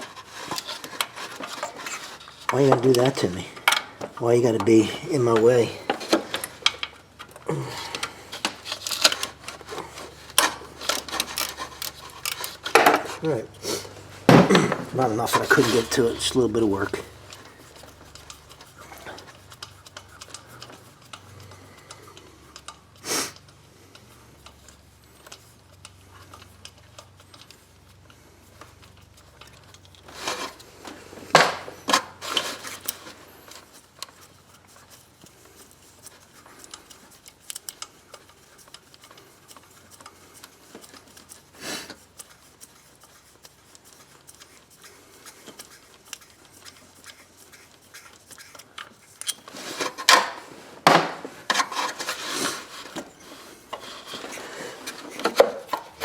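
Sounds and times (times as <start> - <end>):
hand tools clicking and knocking: 0.0 - 23.5, 28.6 - 56.0.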